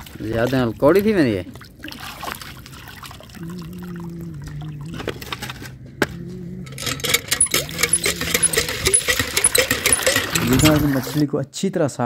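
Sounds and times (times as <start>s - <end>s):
water sloshing and trickling: 0.0s - 5.9s, 6.7s - 11.2s
low steady hum: 0.0s - 11.2s.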